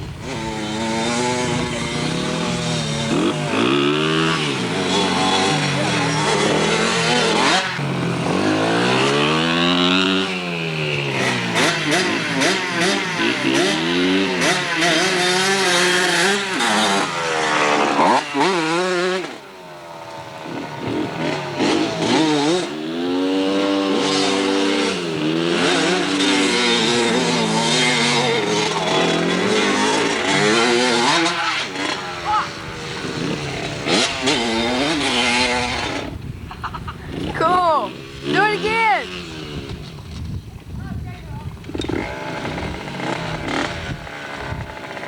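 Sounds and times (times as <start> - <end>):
dirt bike engine revving: 0.0 - 40.4, 41.4 - 45.0.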